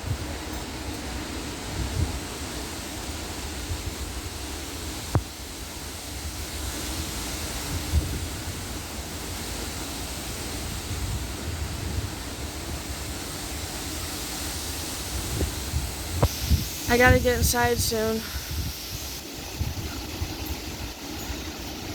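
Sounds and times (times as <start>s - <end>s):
strong storm wind blowing: 0.0s - 21.9s
wind gusts buffeting microphone: 0.0s - 21.9s.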